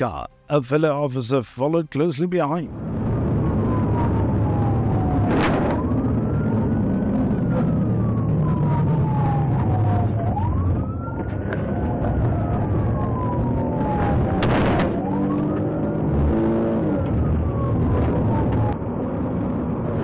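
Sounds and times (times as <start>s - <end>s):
car engine and road noise: 2.6s - 20.0s
police siren wailing: 2.7s - 20.0s.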